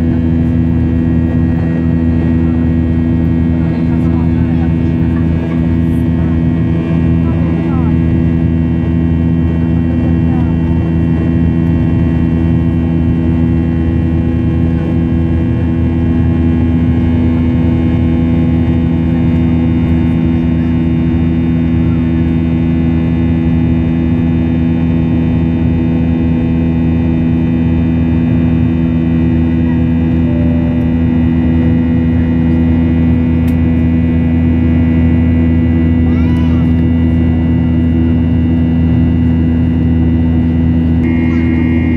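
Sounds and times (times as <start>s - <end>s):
faint engine whine: 0.0s - 41.9s
jet engines droning in cabin: 0.0s - 41.9s.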